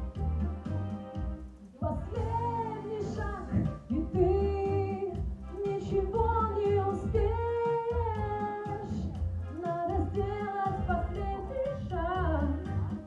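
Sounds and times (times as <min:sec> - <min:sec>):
keyboard accompaniment: 0:00.0 - 0:13.0
steady bass beat: 0:00.0 - 0:13.0
woman singing wordless melody: 0:01.8 - 0:13.0.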